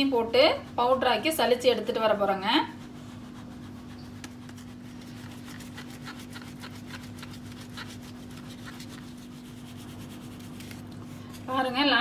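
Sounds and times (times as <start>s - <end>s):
flour rubbed through mesh sieve: 0.0s - 12.0s
steady low hum: 0.0s - 12.0s.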